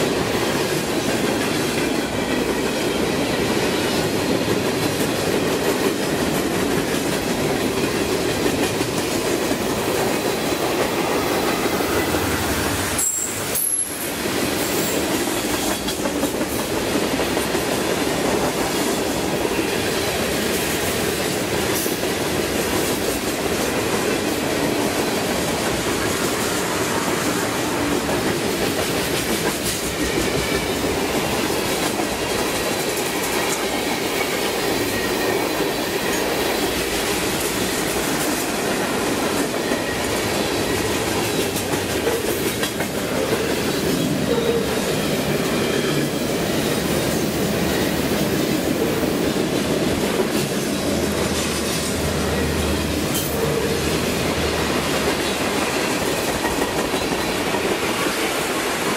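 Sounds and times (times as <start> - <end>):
freight train rolling past: 0.0 - 58.9.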